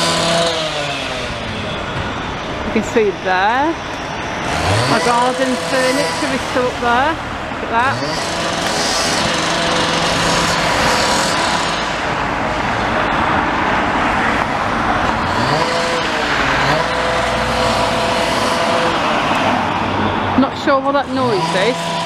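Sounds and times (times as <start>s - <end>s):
motorised machine rumbling: 0.0s - 20.3s
road traffic: 0.0s - 22.0s.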